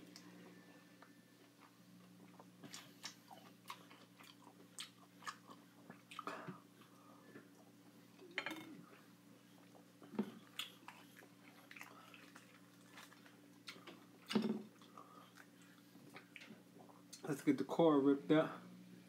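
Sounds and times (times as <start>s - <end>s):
faint low hum: 0.0s - 19.0s
person chewing fruit: 0.1s - 17.2s.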